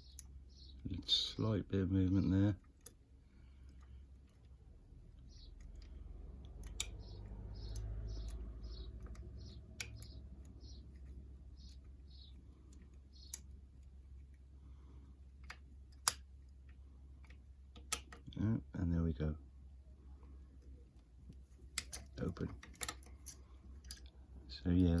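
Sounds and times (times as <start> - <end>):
lock picking metallic clicks: 0.0 - 0.8, 2.6 - 14.4, 15.3 - 18.4, 20.6 - 25.0.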